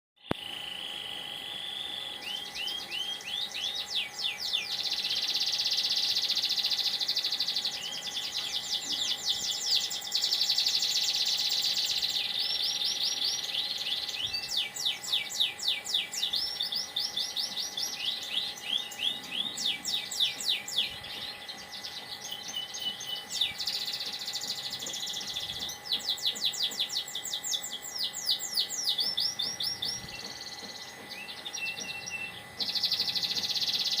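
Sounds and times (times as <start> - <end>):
canary singing trills: 0.2 - 34.0.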